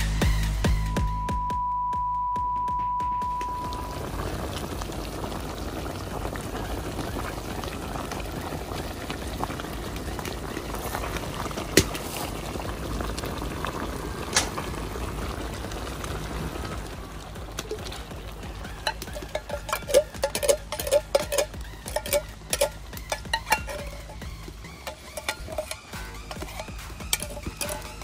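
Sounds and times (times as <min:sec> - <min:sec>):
meat boiling in liquid: 0:03.2 - 0:28.0.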